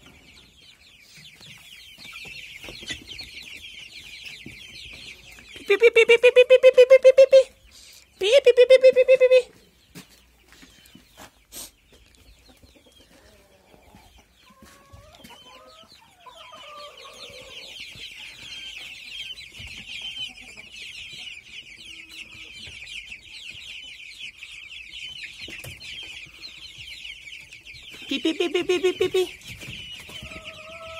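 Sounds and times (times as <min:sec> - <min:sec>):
chicks peeping: 0:00.0 - 0:30.9.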